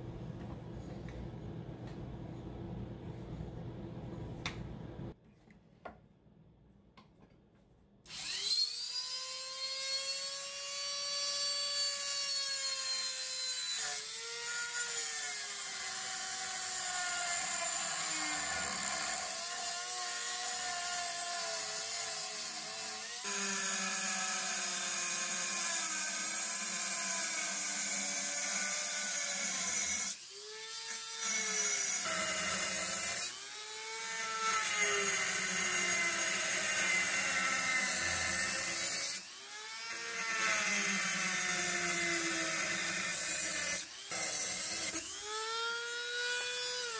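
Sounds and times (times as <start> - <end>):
rotary tool cutting metal: 8.1 - 46.9.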